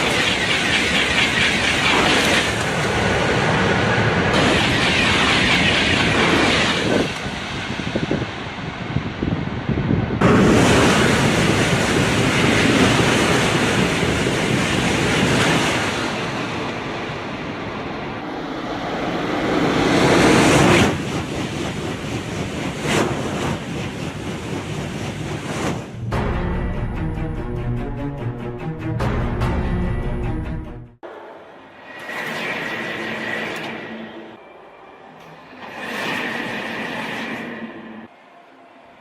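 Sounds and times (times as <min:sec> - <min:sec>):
high-speed train rushing: 0:00.0 - 0:39.0.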